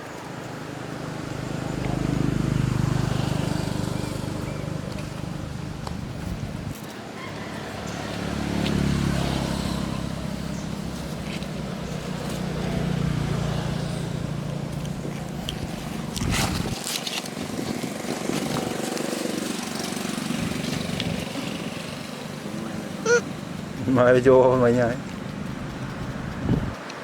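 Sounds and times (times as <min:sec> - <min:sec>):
outdoor noise: 0:00.0 - 0:27.0
small engine running: 0:00.9 - 0:06.4, 0:07.7 - 0:26.6.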